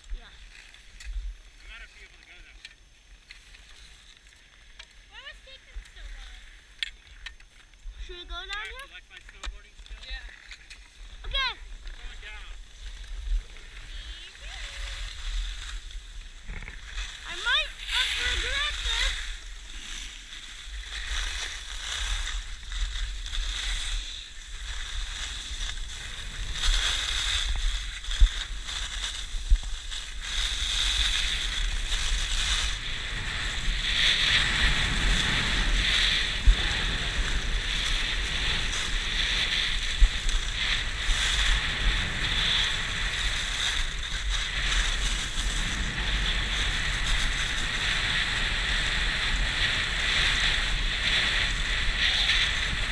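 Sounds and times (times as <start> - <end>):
skis scraping over snow: 0.0 - 6.7, 8.0 - 52.9
wind rumble on microphone: 9.5 - 52.9.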